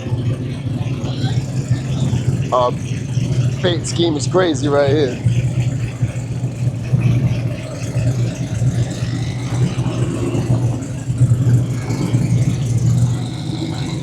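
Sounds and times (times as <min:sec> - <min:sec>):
race car engine idling: 0:00.0 - 0:14.0.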